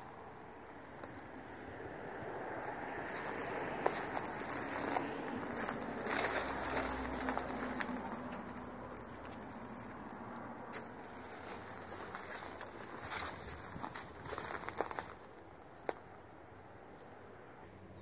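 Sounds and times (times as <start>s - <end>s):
footsteps through dry weeds: 0.0s - 15.5s
outdoor background noise: 0.0s - 18.0s.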